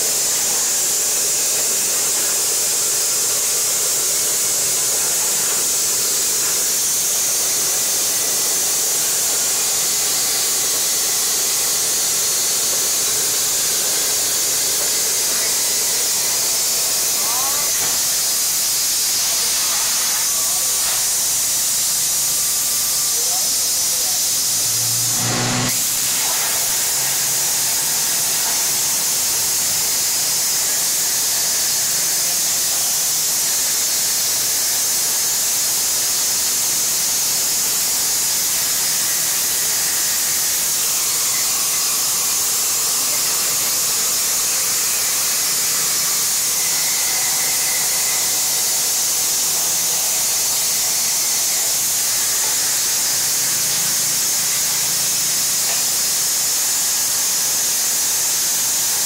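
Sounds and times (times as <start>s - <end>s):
plasma cutter hissing: 0.0s - 59.0s.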